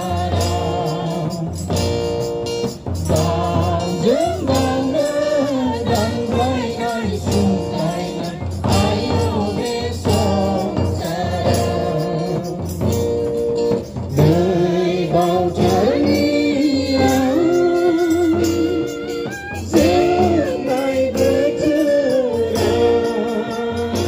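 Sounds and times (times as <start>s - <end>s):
group singing a hymn: 0.0s - 2.2s, 3.0s - 13.0s, 14.1s - 24.0s
hand drum beat: 0.0s - 24.0s.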